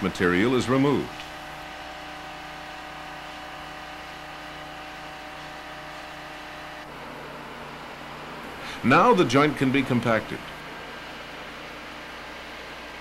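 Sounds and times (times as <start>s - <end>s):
asphalt paver droning: 0.0s - 13.0s.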